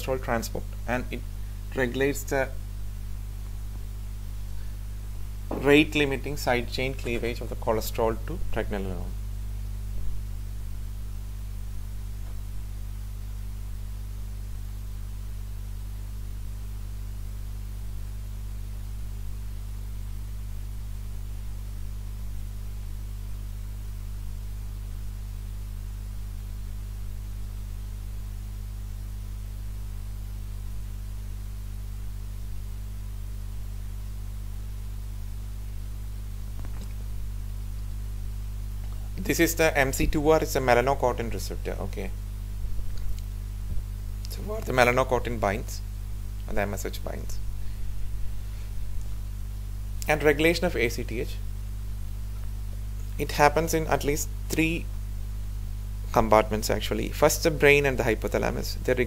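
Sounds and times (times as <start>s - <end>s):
faint hiss: 0.0s - 59.0s
low electrical hum: 0.0s - 59.0s.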